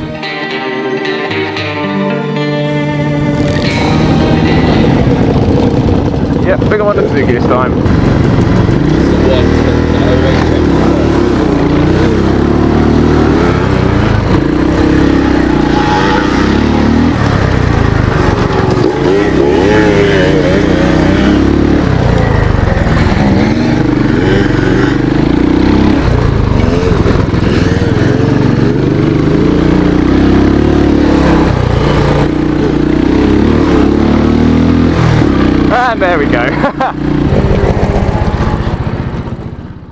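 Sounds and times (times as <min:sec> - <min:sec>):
motorcycle engine accelerating hard: 0:00.0 - 0:39.9.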